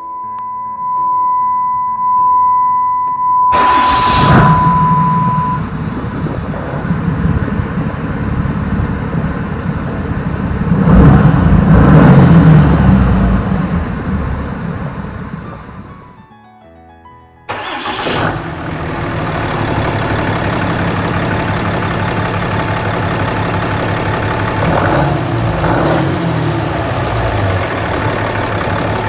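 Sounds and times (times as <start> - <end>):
diesel truck engine running: 3.5 - 16.2, 17.5 - 29.0.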